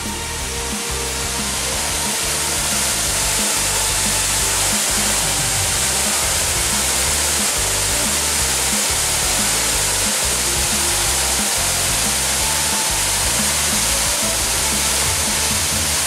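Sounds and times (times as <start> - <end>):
background music: 0.0 - 16.0
waterfall roaring: 0.0 - 16.0.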